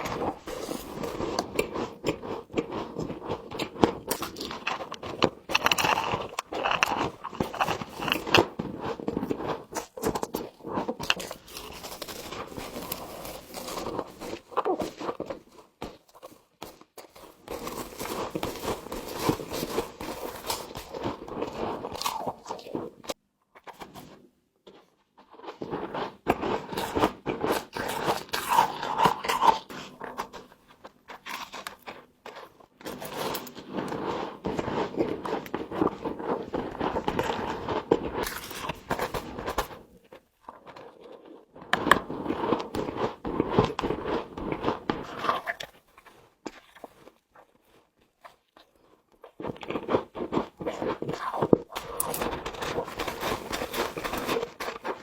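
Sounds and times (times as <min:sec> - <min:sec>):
person chewing crunchy frost: 0:00.0 - 0:55.0.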